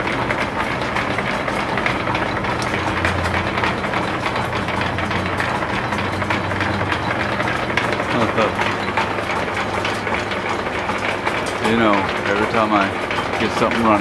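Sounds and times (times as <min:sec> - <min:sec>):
drill press gears and belt clattering: 0:00.0 - 0:14.0
low machine hum: 0:00.0 - 0:14.0.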